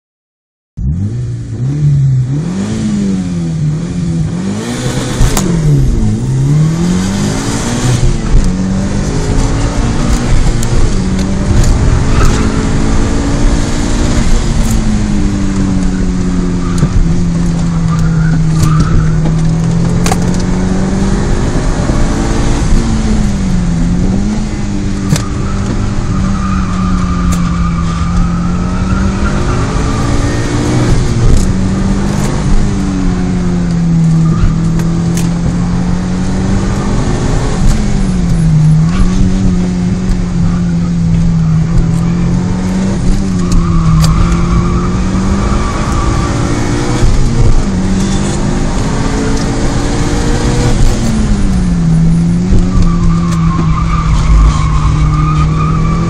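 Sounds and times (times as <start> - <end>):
car engine revving: 0.8 - 56.0.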